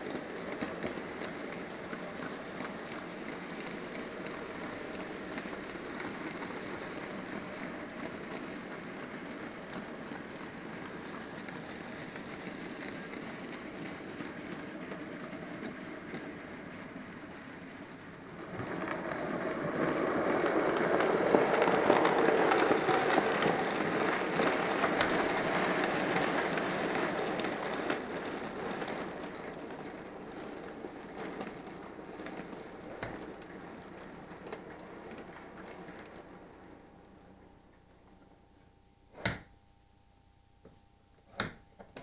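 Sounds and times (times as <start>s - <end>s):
model train wheels rattling on rails: 0.0s - 38.4s.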